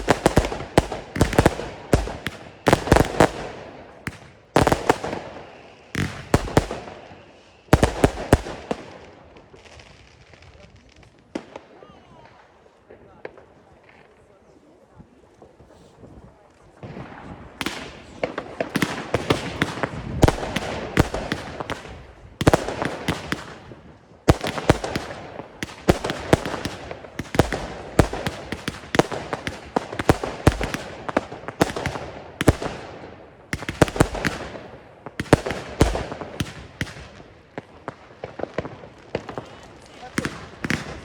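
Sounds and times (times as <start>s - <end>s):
fireworks shots and bangs: 0.0s - 12.5s, 16.7s - 41.0s
firework crackle: 0.0s - 41.0s.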